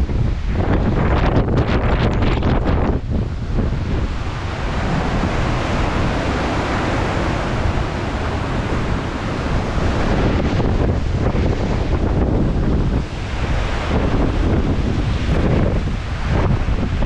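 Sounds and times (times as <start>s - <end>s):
wind buffeting microphone: 0.0s - 17.0s
surf breaking on beach: 2.6s - 17.0s.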